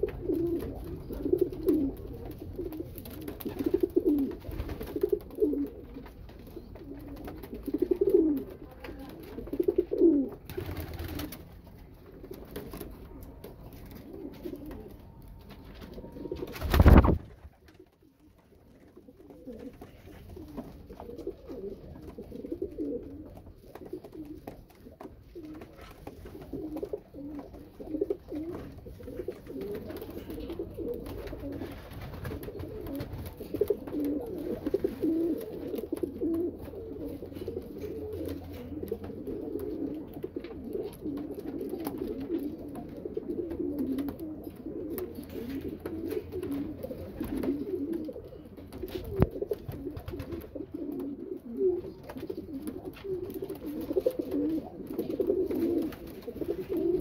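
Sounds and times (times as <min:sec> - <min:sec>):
pigeons cooing: 0:00.0 - 0:11.5, 0:12.1 - 0:57.0.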